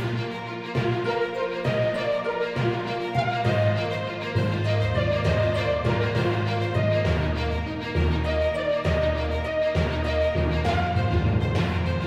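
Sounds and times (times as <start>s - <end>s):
melodic background music with bass: 0.0s - 12.0s.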